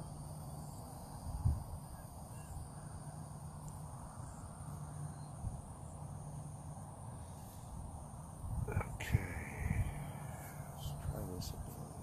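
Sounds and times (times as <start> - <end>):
faint short insect calls: 0.0 - 12.0
insects droning: 0.0 - 12.0.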